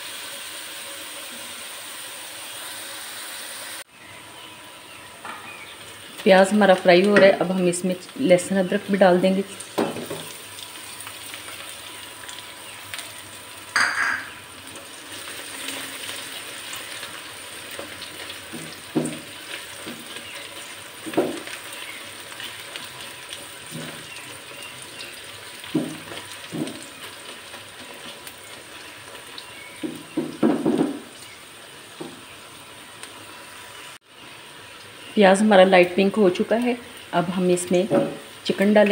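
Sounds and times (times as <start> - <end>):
onions sizzling in hot oil: 0.0 - 38.9.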